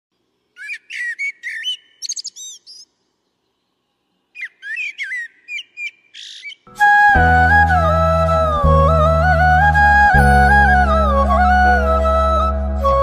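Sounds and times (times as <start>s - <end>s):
songbird singing: 0.5s - 12.4s.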